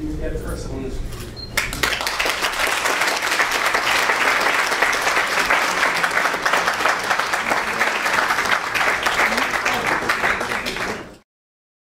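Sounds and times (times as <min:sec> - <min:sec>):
audience applauding: 0:01.6 - 0:11.2.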